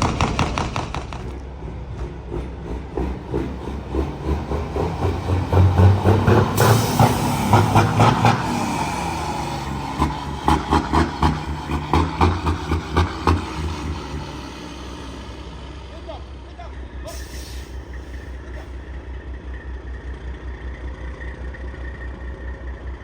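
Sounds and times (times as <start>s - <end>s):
heavy truck running: 0.0s - 23.0s.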